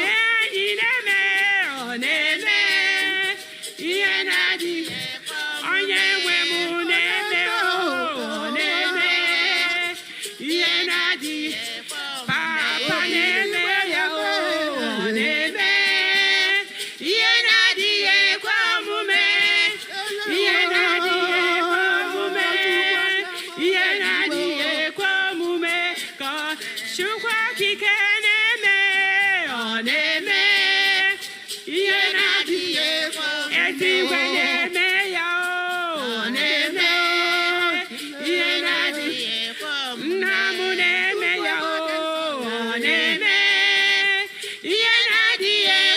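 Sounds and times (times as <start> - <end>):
voices singing: 0.0 - 45.9.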